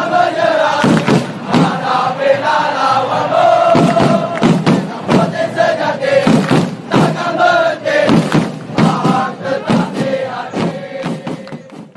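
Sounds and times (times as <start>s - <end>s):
crowd singing in unison: 0.0s - 11.9s
steady drum beat: 0.7s - 2.5s, 3.4s - 11.9s.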